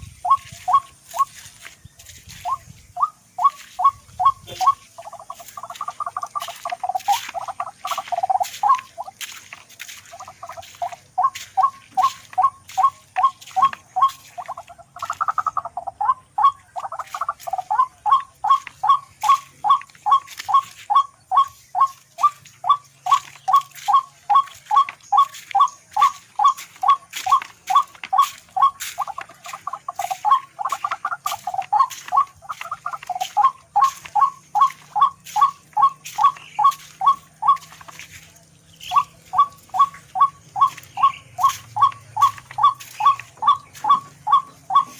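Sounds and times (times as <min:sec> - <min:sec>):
rail calling harsh notes: 0:00.0 - 0:44.9.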